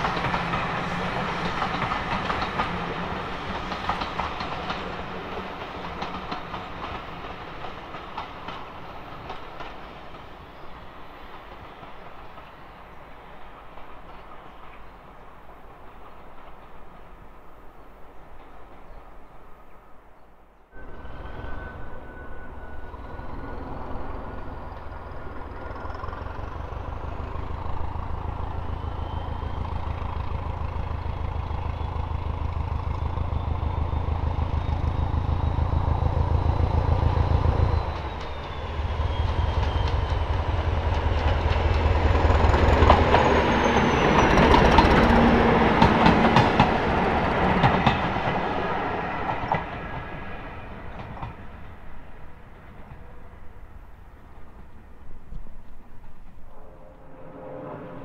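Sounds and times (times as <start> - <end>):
train low drone: 0.0 - 58.0.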